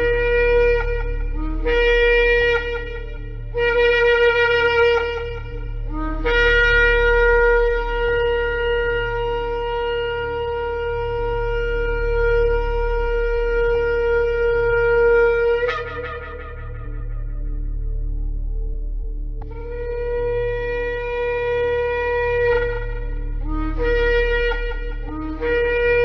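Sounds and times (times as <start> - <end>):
shofar blowing: 0.0 - 18.2, 19.4 - 26.0
steady low hum: 0.0 - 26.0.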